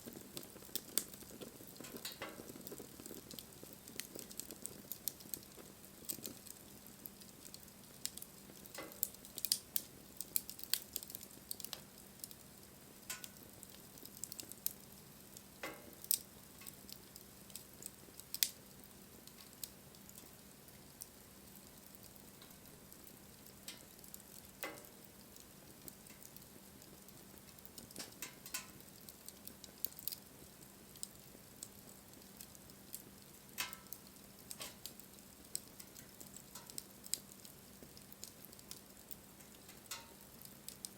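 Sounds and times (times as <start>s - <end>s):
campfire crackling and popping: 0.0s - 40.9s
hiss of burning wood: 0.0s - 40.9s.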